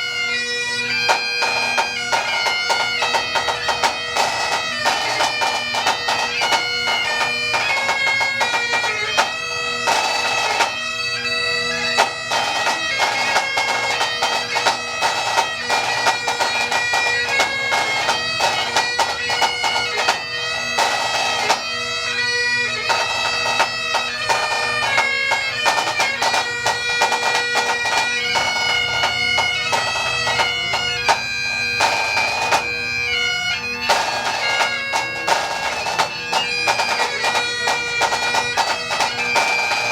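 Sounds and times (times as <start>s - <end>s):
bagpipes playing melody: 0.0s - 39.9s.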